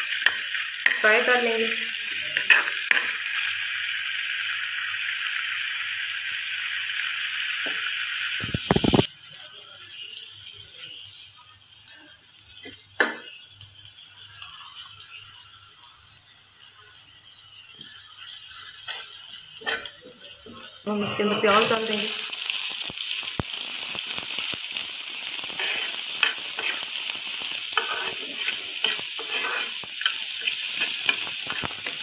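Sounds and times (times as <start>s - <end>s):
garlic sizzling in oil: 0.0s - 32.0s.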